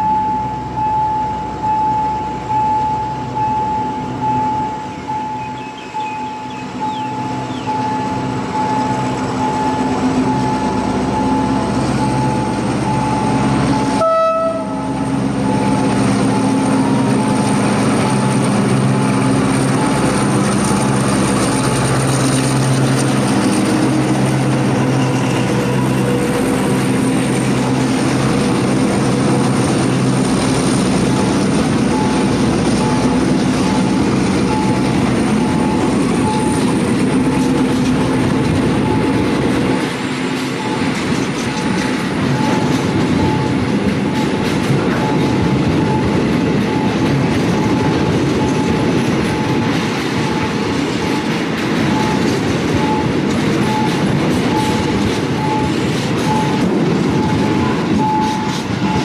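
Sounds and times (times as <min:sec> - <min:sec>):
diesel locomotive engine drone: 0:00.0 - 0:59.0
train wheels clacking over rail joints: 0:06.0 - 0:59.0.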